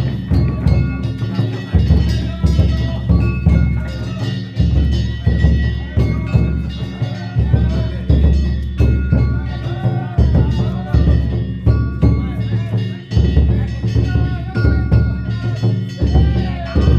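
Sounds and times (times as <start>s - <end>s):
metal hand gongs clanging: 0.0s - 16.9s
taiko drum beating rhythm: 0.0s - 16.9s.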